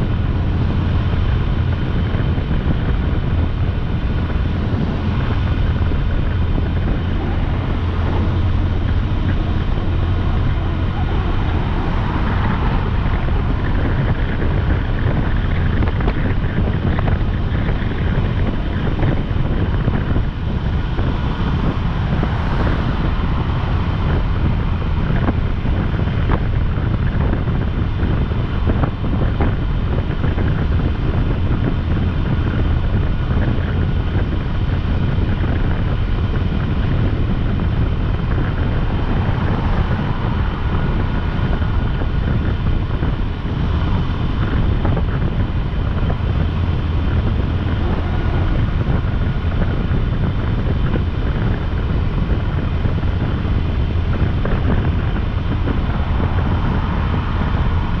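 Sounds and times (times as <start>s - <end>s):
motorcycle engine and road noise: 0.0s - 58.0s
wind rushing over microphone: 0.0s - 58.0s.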